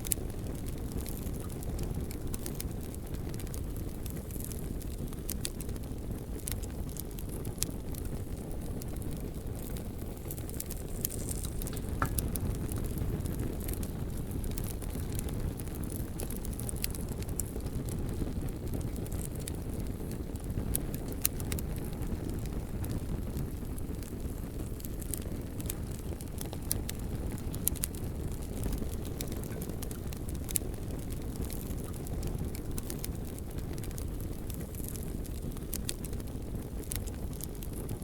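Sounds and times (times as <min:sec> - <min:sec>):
bonfire crackling: 0:00.0 - 0:38.0.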